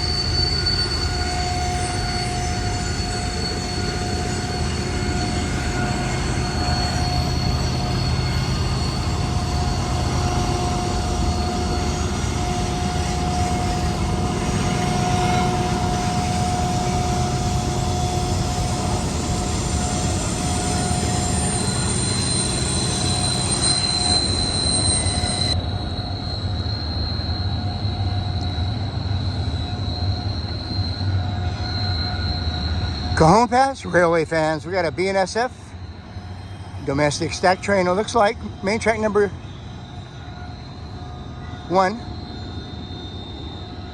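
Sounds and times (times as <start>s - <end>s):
freight train rumble: 0.0s - 43.9s
train wheels squealing: 0.0s - 43.9s.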